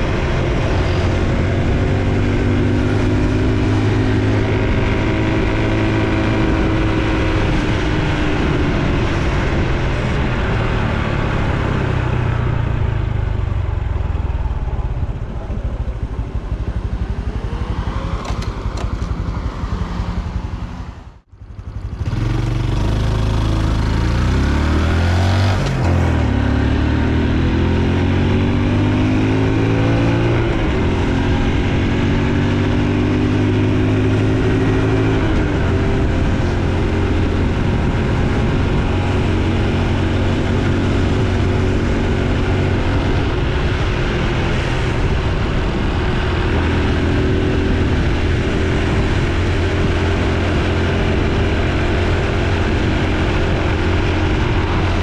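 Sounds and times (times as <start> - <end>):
motorcycle engine running: 0.0 - 55.0
road noise: 0.0 - 55.0.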